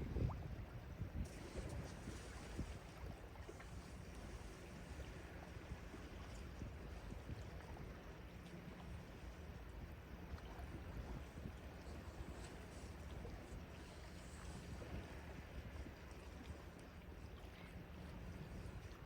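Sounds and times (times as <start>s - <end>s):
sea washing at shore: 0.0s - 19.0s.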